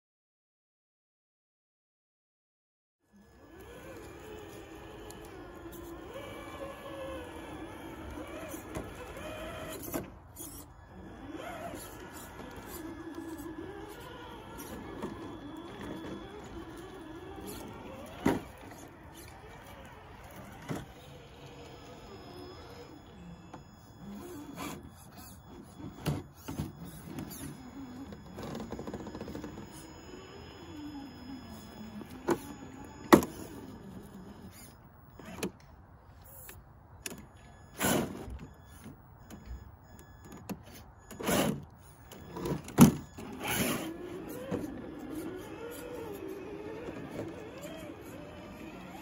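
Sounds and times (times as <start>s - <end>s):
electric motor and gears whining: 3.1s - 49.0s.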